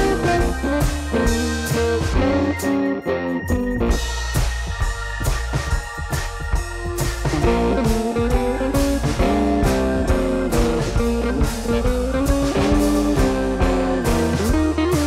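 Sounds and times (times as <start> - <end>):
guitar tune over drum beat: 0.0 - 15.0.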